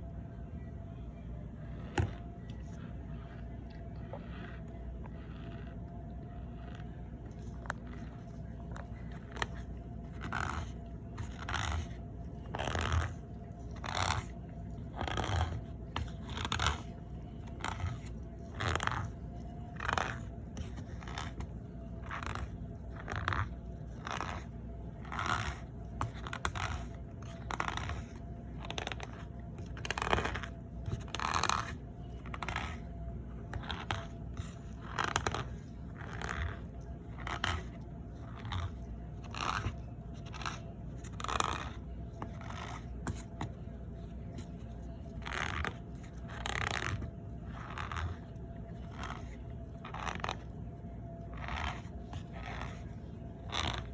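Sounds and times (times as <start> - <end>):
cornstarch squeaking and crunching: 1.7 - 53.9.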